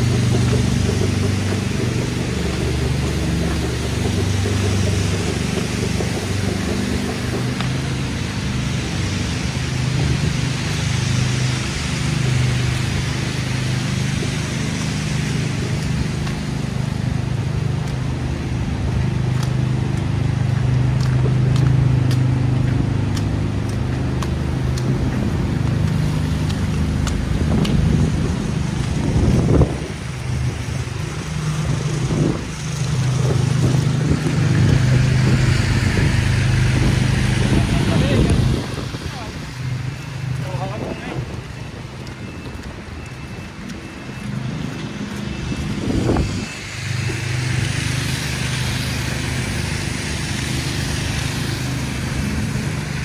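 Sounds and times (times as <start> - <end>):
road noise: 0.0 - 53.0
vehicle engine humming: 0.0 - 53.0.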